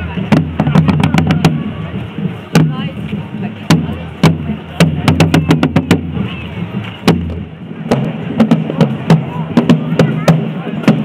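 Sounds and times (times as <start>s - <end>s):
marching side drums: 0.0s - 11.0s.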